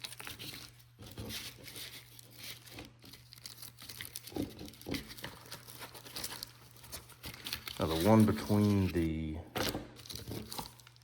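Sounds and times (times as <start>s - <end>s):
package being handled: 0.0s - 11.0s
packaging crinkling and rustling: 0.0s - 11.0s.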